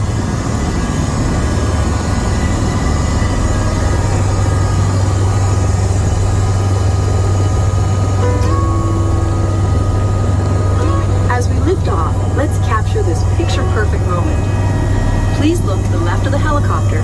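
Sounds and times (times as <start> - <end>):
helicopter cabin hum: 0.0 - 17.0
turbine and rotor rushing: 0.0 - 17.0.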